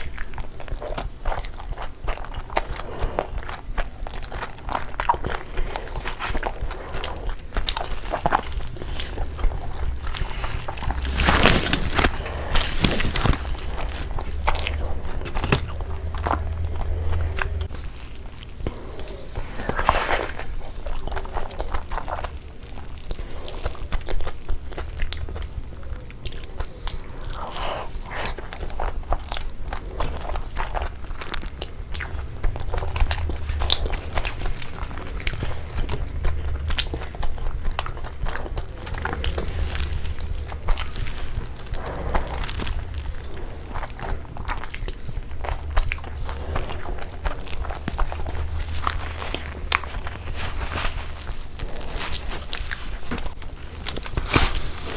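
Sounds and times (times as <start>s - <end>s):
crunchy biting and chewing: 0.0s - 54.9s.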